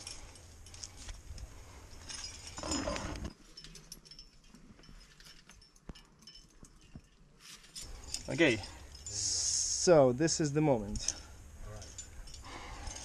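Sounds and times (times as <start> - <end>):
climbing gear clicking and clinking: 0.0 - 13.0.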